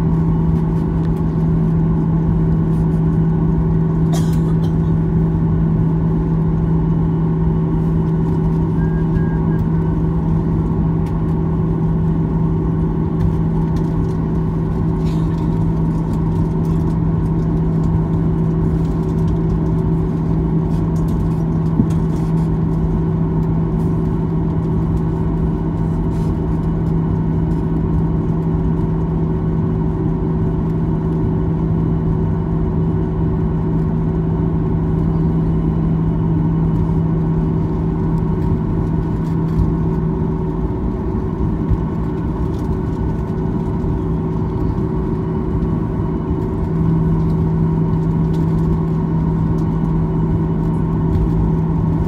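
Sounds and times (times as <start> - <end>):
jet engines droning at low power: 0.0 - 52.0.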